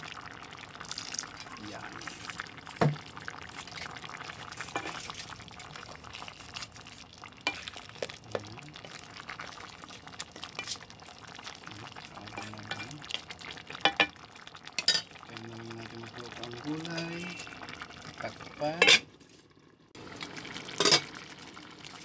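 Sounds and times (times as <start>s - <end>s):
stew bubbling in a pot: 0.0s - 22.0s.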